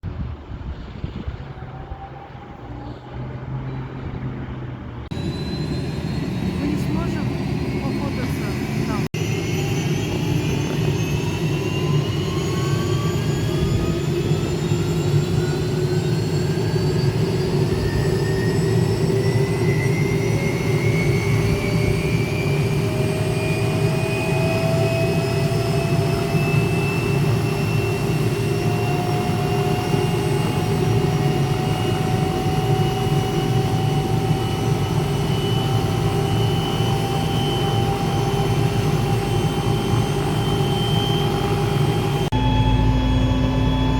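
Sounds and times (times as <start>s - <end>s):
helicopter turbine and rotor: 1.9s - 43.9s.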